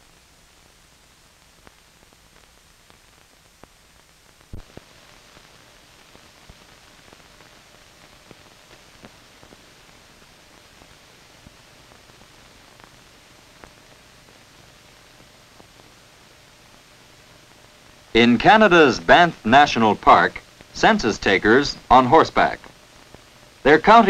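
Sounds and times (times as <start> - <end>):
crackles and clicks: 0.0 - 24.0
film soundtrack hiss: 0.0 - 24.0.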